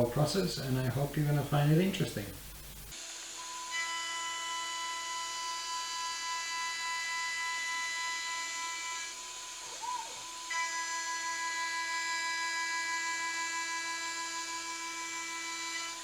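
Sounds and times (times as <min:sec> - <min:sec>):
milling machine spindle whine: 0:00.0 - 0:16.0.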